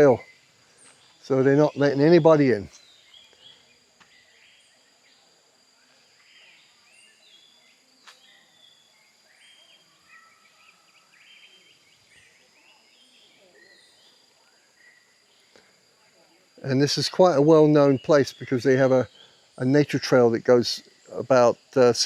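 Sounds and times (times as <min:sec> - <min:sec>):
faint birdsong chirps: 0:00.0 - 0:22.0
high insect whine: 0:00.0 - 0:22.0.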